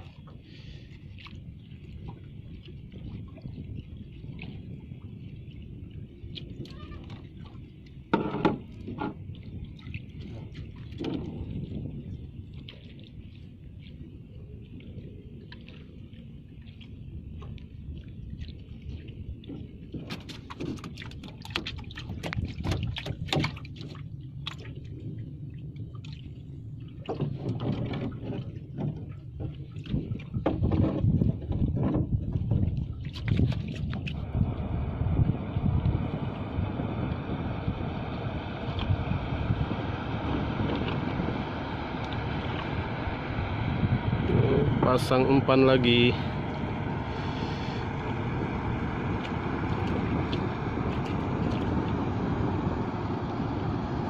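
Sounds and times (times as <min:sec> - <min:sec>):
steady low rumble: 0:00.0 - 0:20.0, 0:22.0 - 0:27.1, 0:31.0 - 0:54.0
water sloshing and splashing: 0:00.0 - 0:54.0
wind buffeting microphone: 0:00.0 - 0:54.0.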